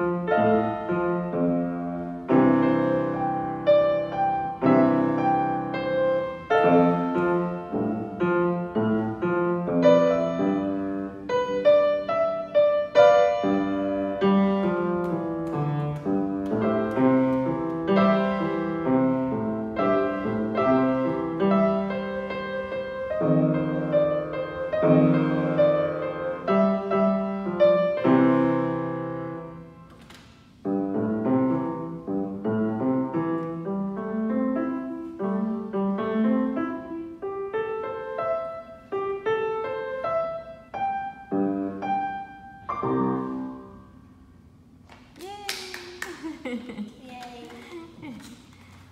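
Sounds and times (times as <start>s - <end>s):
upright piano boogie duet: 0.0s - 29.8s, 30.6s - 43.8s.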